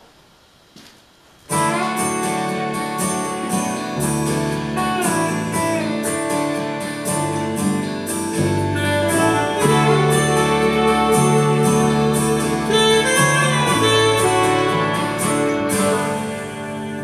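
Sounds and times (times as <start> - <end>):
digital piano chords: 1.5 - 17.0
electric bass: 1.5 - 17.0
electric guitar: 1.5 - 17.0.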